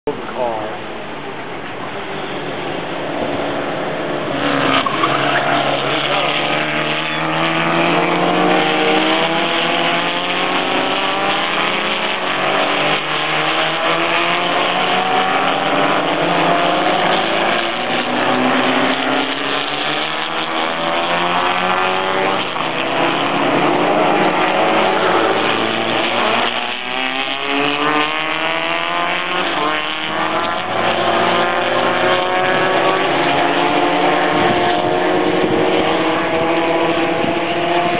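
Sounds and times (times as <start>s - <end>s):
race car engine accelerating: 3.0s - 37.9s.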